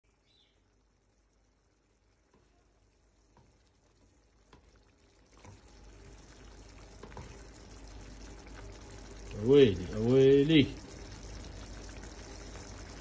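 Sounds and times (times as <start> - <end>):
stew bubbling in a pan: 0.0 - 13.0.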